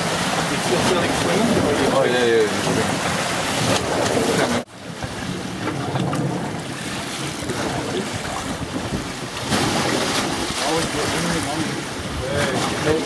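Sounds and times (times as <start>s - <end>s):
sea washing around boat: 0.0s - 13.0s
wind noise on microphone: 0.0s - 13.0s.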